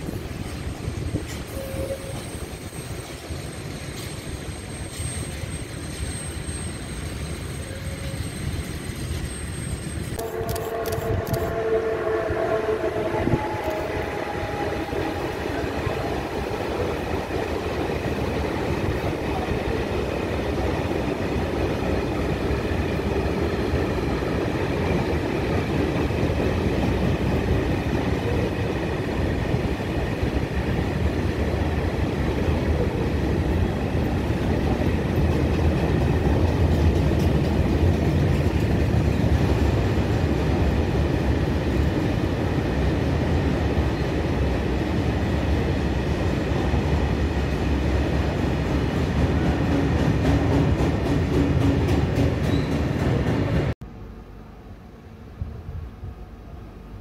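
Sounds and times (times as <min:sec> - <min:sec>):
freight train rumbling past: 0:00.0 - 0:57.0
train passing close by: 0:00.0 - 0:57.0.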